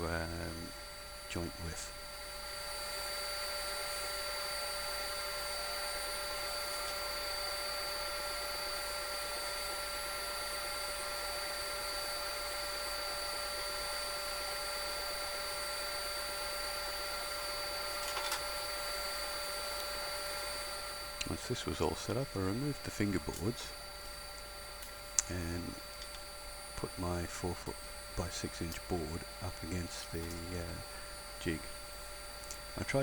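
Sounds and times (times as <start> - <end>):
table saw whining: 0.0 - 33.0.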